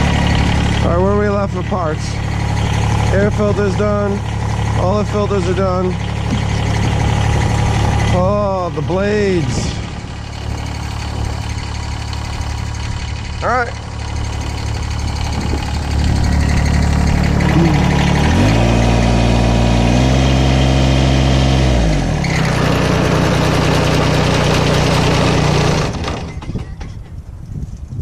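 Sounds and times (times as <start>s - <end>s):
tractor diesel engine: 0.0s - 27.3s.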